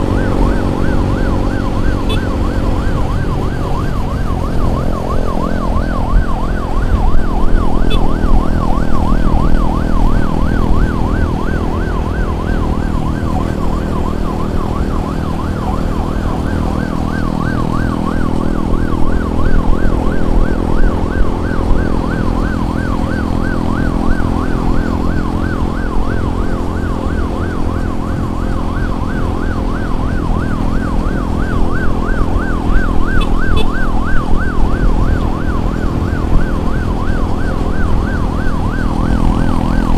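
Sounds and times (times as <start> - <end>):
emergency siren yelping: 0.0 - 39.9
traffic engine and road noise: 0.0 - 39.9.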